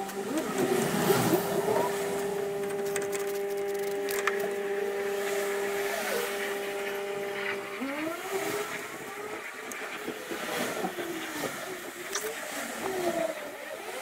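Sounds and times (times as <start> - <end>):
steady motor hum: 0.0 - 14.0
wavering gliding tones: 0.0 - 14.0.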